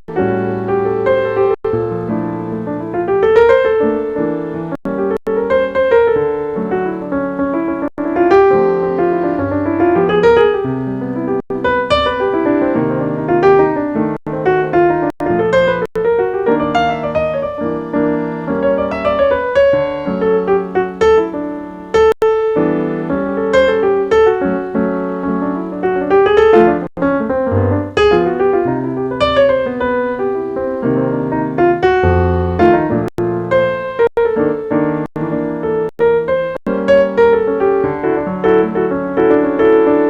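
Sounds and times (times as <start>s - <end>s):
jazz piano: 0.1s - 40.0s.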